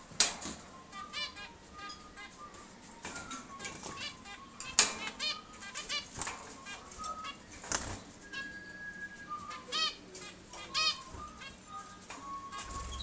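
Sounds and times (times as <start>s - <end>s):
cage birds chirping: 0.0s - 13.0s.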